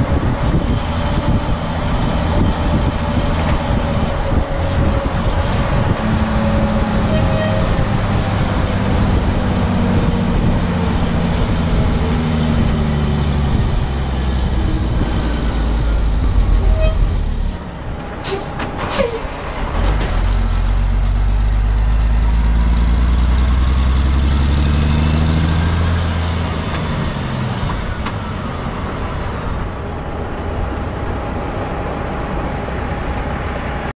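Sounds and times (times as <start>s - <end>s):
truck diesel engine under load: 0.0s - 33.9s.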